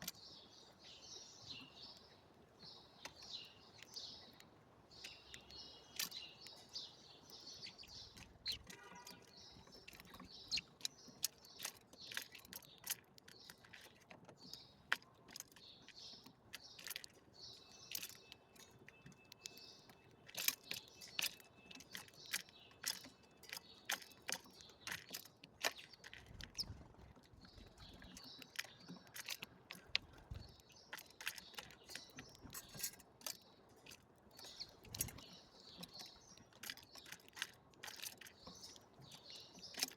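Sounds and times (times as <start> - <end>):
small birds chirping: 0.0 - 39.9
sharp irregular ticks and taps: 1.8 - 39.9.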